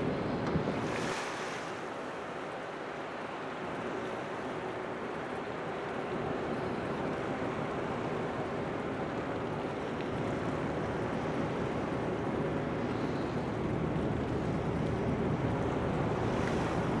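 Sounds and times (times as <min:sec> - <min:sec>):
ship engine hum: 0:00.0 - 0:17.0
water noise: 0:00.0 - 0:17.0
wind: 0:00.0 - 0:17.0.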